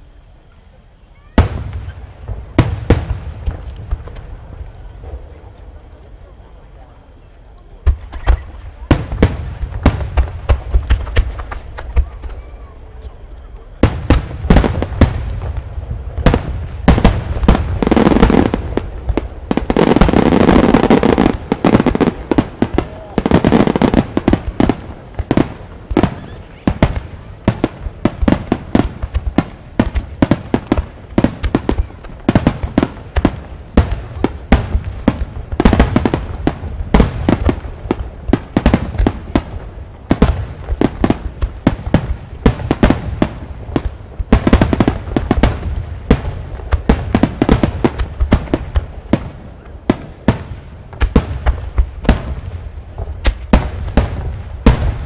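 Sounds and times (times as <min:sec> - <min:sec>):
deep fireworks rumble: 0:00.0 - 0:55.0
loud fireworks booms: 0:00.0 - 0:55.0.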